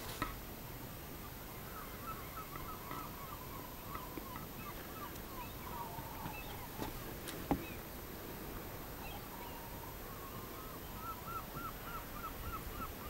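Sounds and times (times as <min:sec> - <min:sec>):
bird chirping: 0:01.3 - 0:07.9, 0:09.0 - 0:13.0.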